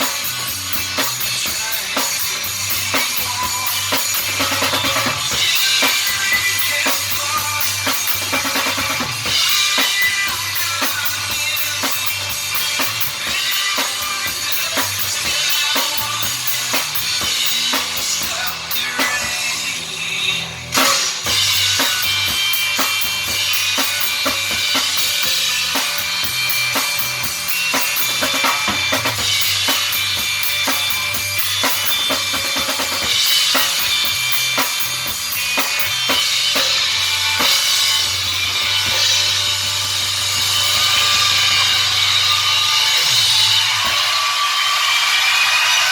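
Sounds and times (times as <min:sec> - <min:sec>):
drum kit beat: 0:00.0 - 0:45.9
held rock guitar chords: 0:00.0 - 0:45.9.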